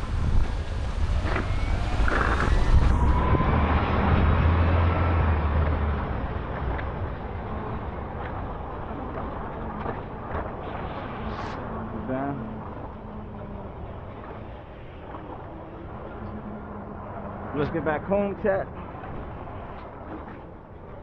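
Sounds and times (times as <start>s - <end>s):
low rumble: 0.0s - 17.6s
wind noise: 0.0s - 18.0s
road noise: 0.0s - 21.0s.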